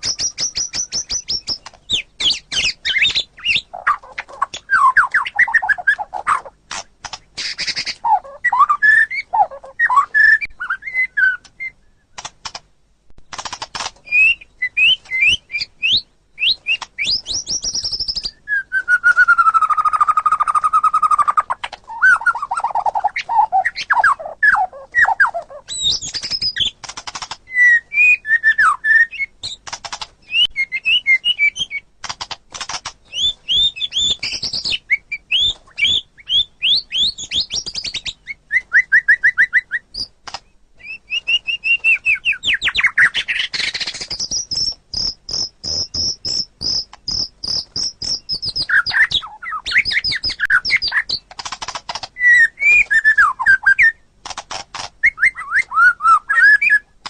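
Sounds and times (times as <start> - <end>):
songbird singing whistled notes: 0.0 - 6.5, 7.4 - 12.2, 14.0 - 26.8, 27.4 - 29.6, 30.2 - 31.9, 33.0 - 51.3, 52.2 - 54.1, 55.0 - 57.0.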